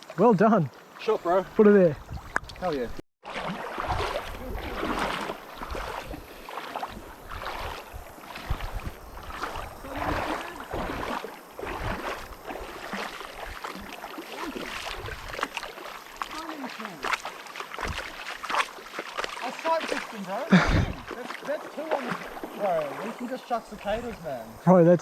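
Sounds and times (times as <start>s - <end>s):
river water splashing: 0.0s - 24.9s.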